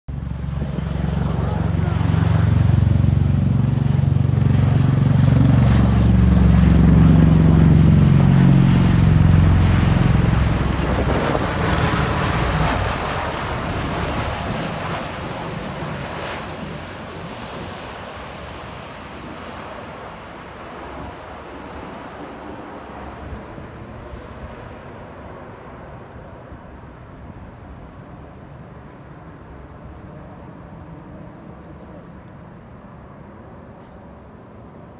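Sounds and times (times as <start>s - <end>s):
aircraft rotor drone: 0.1s - 34.9s.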